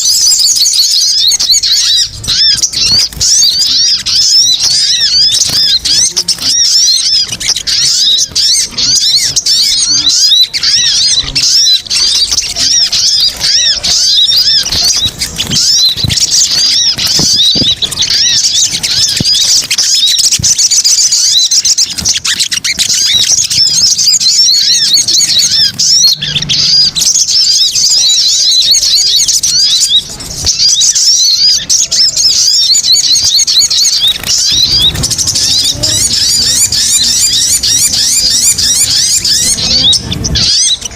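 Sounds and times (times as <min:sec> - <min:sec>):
high bird chirps: 0:00.0 - 0:40.9.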